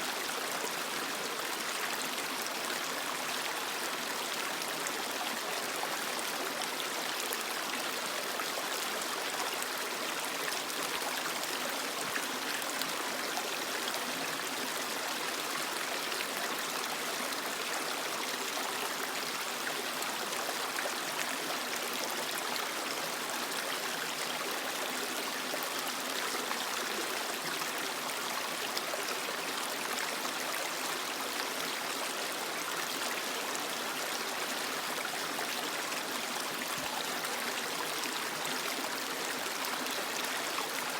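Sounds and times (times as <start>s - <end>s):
creek water running over rocks: 0.0s - 40.9s.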